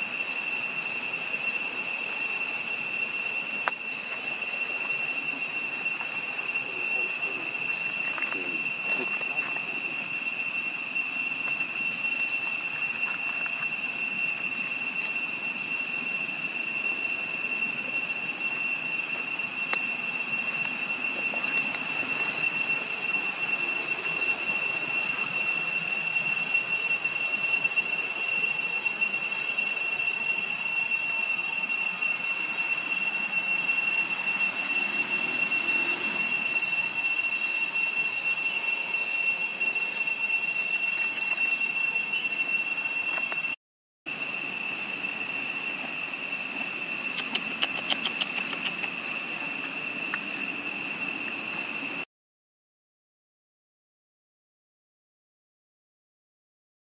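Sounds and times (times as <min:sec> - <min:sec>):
high-pitched insect drone: 0:00.0 - 0:52.1.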